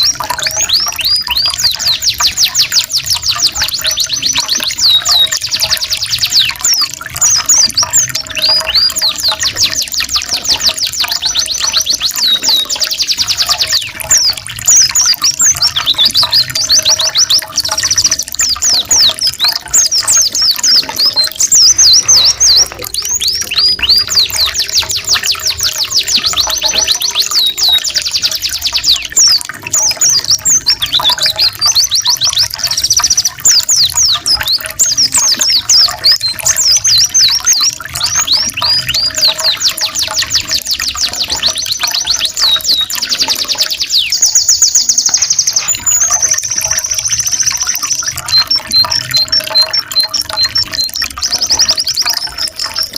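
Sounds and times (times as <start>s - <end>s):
songbirds trilling and chirping: 0.0s - 52.9s.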